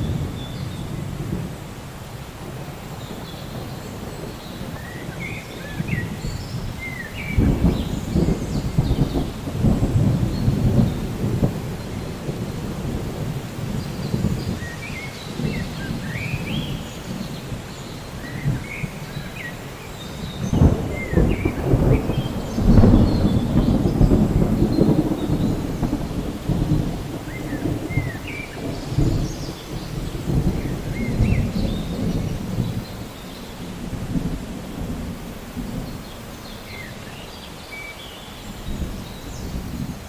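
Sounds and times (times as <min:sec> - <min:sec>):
thunder rumbling: 0:00.0 - 0:37.2, 0:38.4 - 0:40.0
steady rain: 0:00.0 - 0:40.0.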